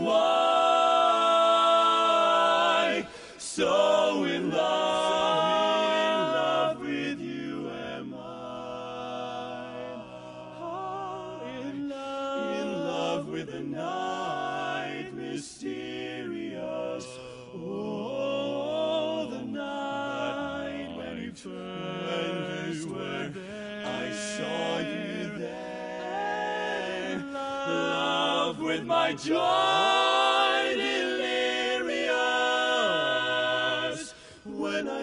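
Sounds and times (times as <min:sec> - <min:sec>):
male quartet singing a cappella: 0:00.0 - 0:35.0.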